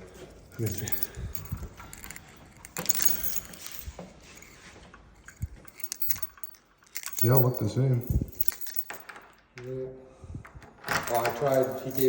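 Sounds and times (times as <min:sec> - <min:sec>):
keys jangling and clinking: 0:00.4 - 0:04.6, 0:05.2 - 0:09.5, 0:10.8 - 0:12.0.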